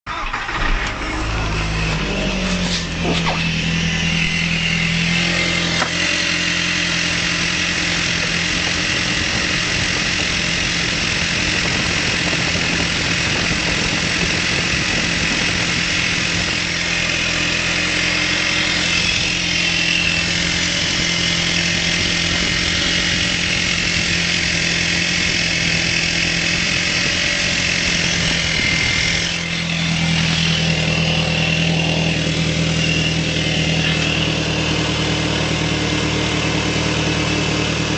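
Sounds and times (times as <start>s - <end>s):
car engine idling cold: 0.1s - 37.9s.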